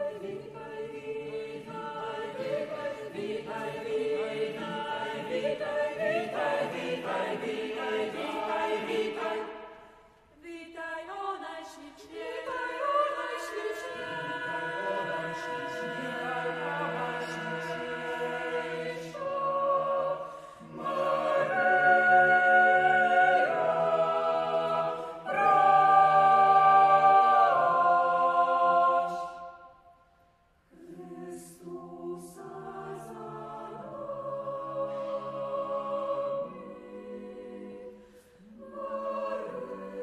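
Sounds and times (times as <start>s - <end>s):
choir singing a cappella: 0.0s - 40.0s.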